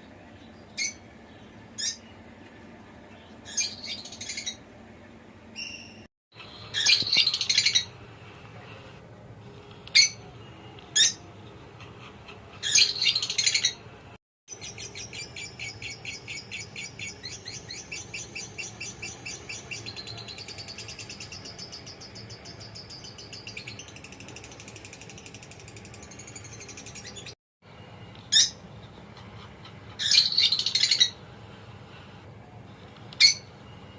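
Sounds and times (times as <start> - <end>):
small birds chirping: 0.0 - 4.7, 5.5 - 9.0, 9.6 - 33.9.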